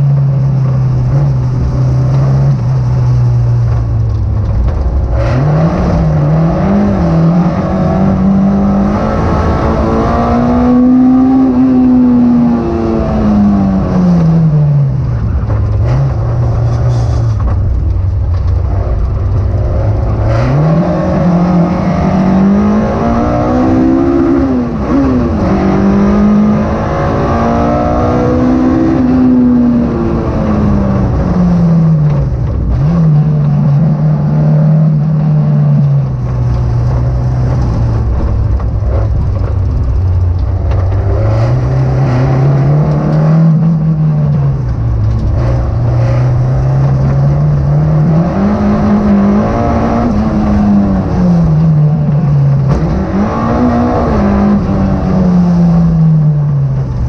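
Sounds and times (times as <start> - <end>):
car engine heard from inside: 0.0 - 57.0.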